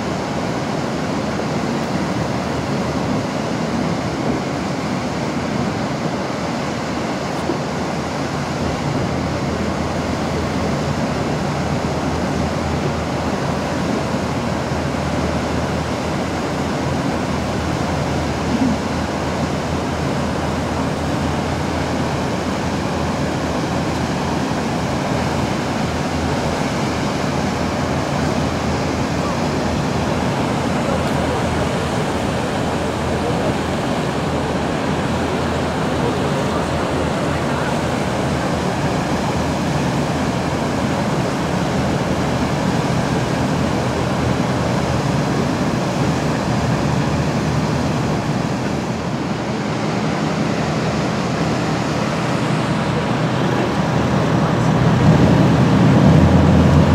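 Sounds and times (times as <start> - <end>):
boat engine hum: 0.0 - 56.9
waterfall rushing: 0.0 - 56.9.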